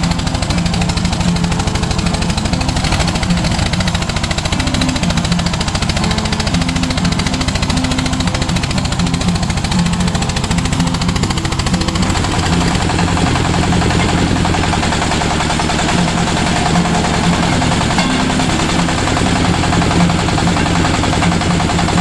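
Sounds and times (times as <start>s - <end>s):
diesel engine knocking under load: 0.0s - 22.0s.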